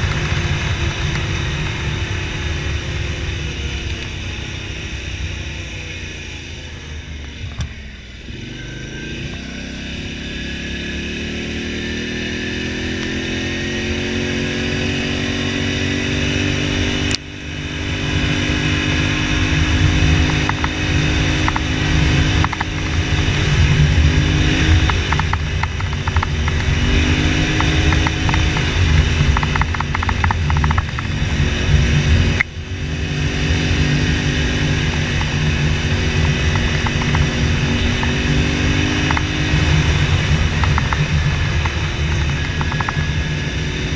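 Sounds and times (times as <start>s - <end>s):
atv engine droning: 0.0s - 43.9s.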